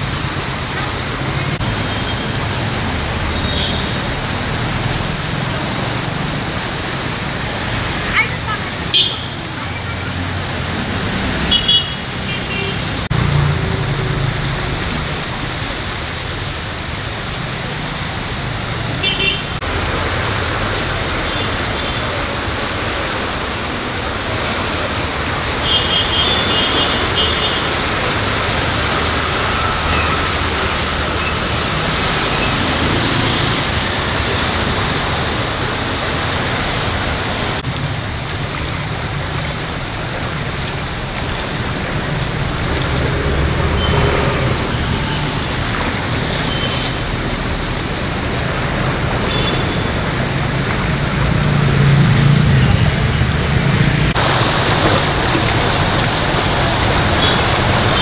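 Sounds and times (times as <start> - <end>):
river roaring: 0.0 - 58.0
road traffic: 0.0 - 58.0.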